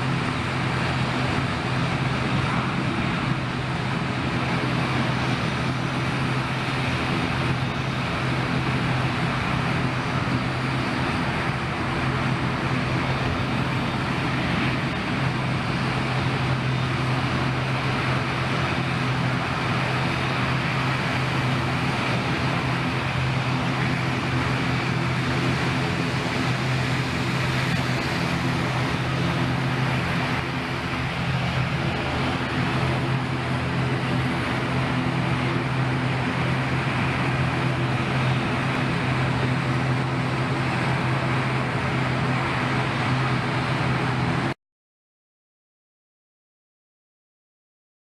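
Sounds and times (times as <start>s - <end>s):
steady engine drone: 0.0s - 44.6s.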